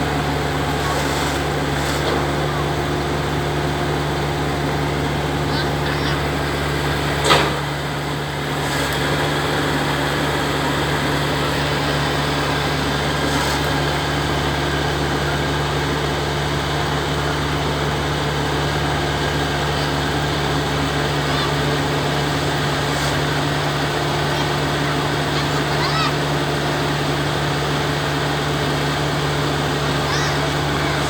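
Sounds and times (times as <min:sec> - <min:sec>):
threshing machine humming: 0:00.0 - 0:31.0.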